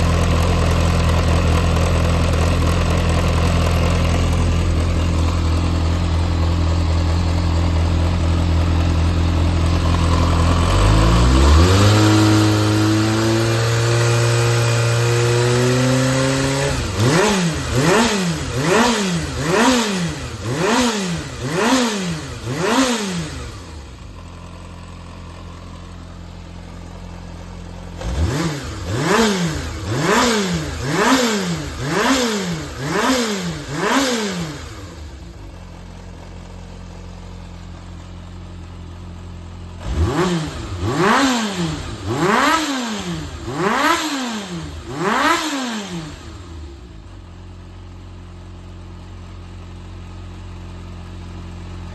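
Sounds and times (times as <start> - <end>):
motorcycle engine idling and revving: 0.0 - 51.9.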